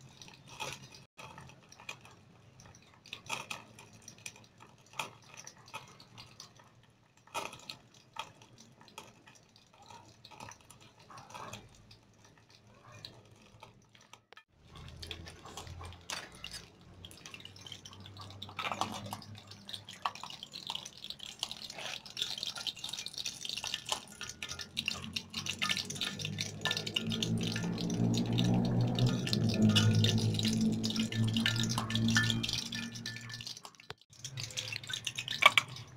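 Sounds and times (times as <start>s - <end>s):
food sizzling in hot oil: 2.6s - 35.9s.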